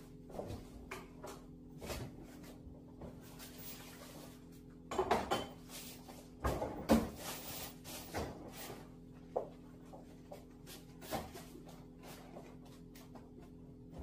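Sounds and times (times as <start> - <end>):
packages and bottles clunking: 0.2 - 14.0.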